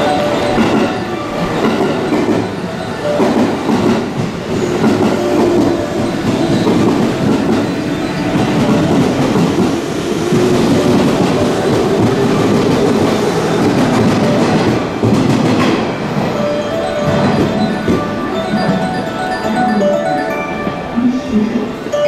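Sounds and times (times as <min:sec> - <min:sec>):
electric train pulling in: 0:00.0 - 0:22.0.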